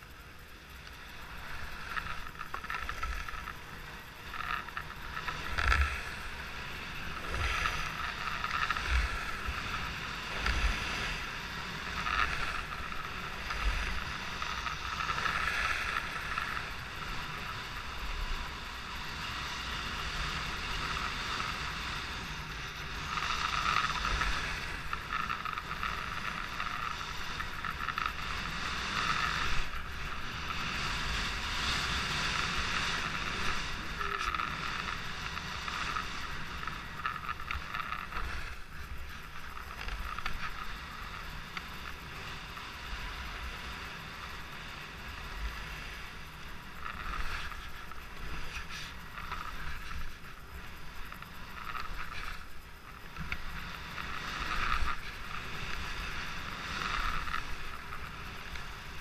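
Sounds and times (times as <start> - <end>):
skis sliding over snow: 0.0 - 59.0
wind rumbling on microphone: 0.0 - 59.0.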